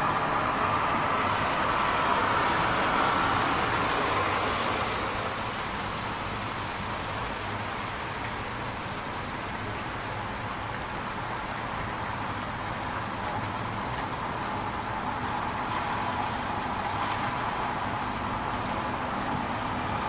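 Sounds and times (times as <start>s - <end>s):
rain falling on street: 0.0s - 20.0s
traffic hiss on wet roads: 0.0s - 20.0s.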